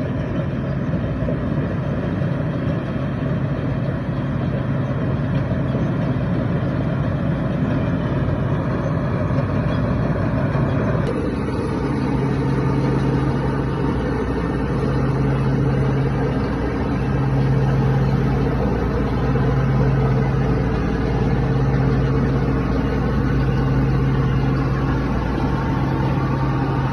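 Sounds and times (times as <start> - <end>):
harvesting machine engine running: 0.0 - 26.9.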